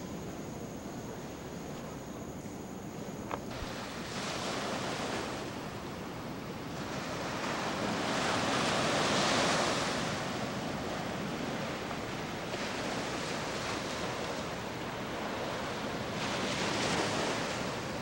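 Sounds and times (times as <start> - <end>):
ocean waves on sandy beach: 3.2 - 18.0.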